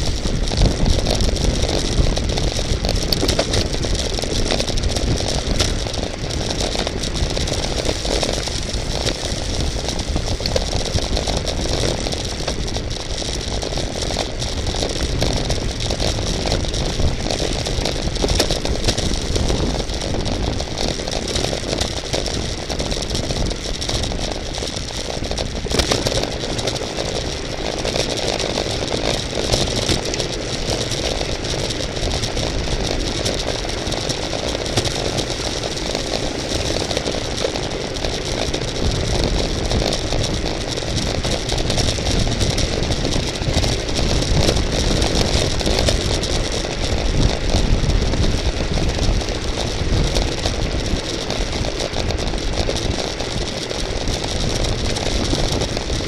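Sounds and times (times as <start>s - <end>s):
bicycle chain rattle: 0.0s - 56.0s
bicycle road noise: 0.0s - 56.0s
wind rush: 0.0s - 56.0s.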